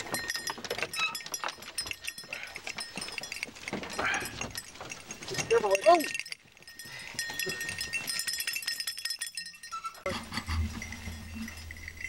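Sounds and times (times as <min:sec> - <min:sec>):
small bell jingling: 0:00.0 - 0:12.0.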